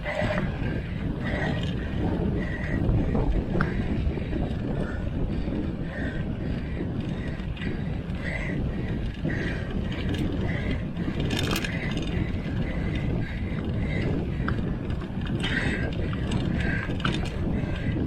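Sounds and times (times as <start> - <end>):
bike drivetrain ratcheting: 0.0 - 18.0
low rumble: 0.0 - 18.0.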